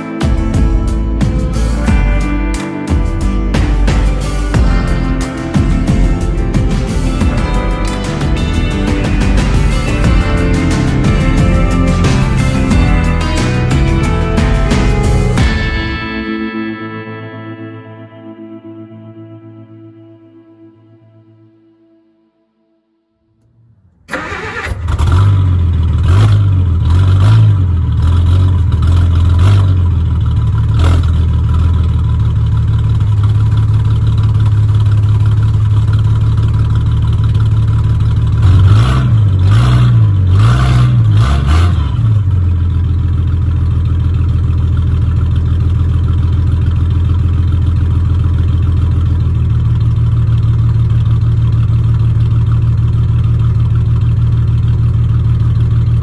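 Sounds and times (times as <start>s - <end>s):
car engine starting and revving: 3.2s - 16.0s, 23.4s - 56.0s.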